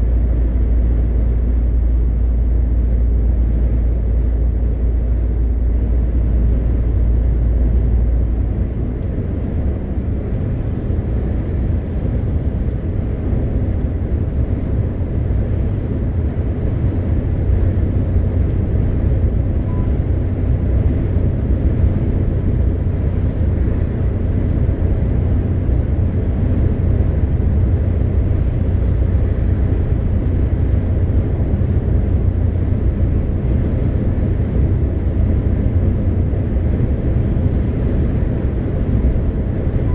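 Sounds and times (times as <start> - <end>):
diesel truck engine droning: 0.0 - 39.9
road noise: 0.0 - 39.9.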